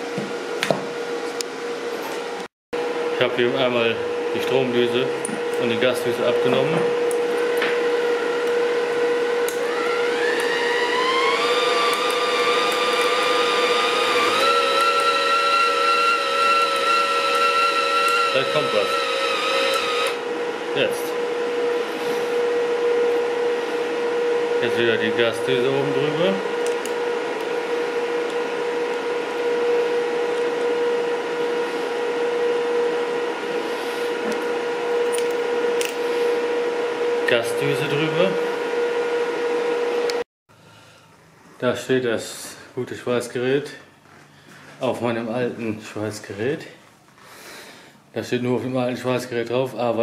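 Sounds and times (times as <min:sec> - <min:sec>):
wire-feed motor whine: 0:00.0 - 0:40.2
cooling fan running: 0:00.0 - 0:41.5.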